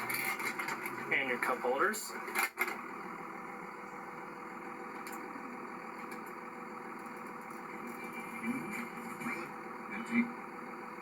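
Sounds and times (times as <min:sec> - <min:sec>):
air conditioning blower: 0:00.0 - 0:11.0.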